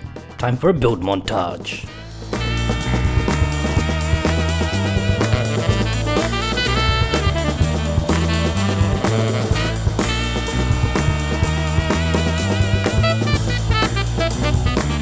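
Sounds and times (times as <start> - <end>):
drum kit beat: 1.6 - 15.0
bass line: 1.8 - 15.0
pitched melody: 1.9 - 15.0.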